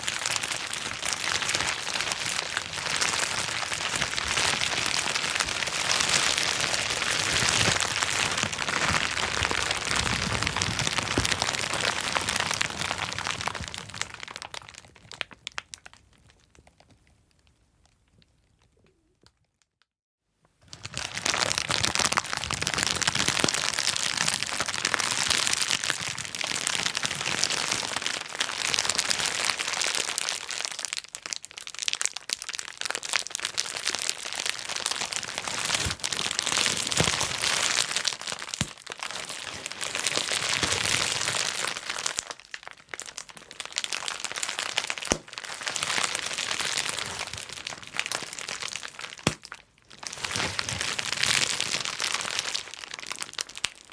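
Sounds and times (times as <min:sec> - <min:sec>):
bubble wrap popping: 0:00.0 - 0:19.4, 0:20.6 - 0:53.9.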